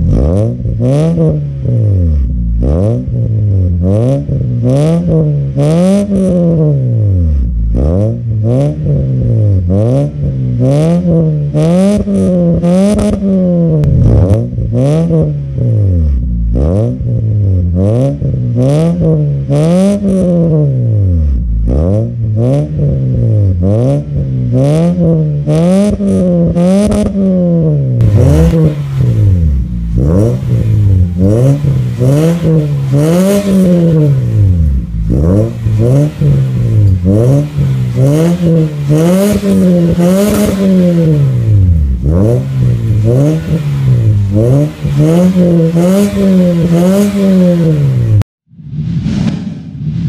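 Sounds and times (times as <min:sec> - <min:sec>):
car engine revving through exhaust: 0:00.0 - 0:48.3.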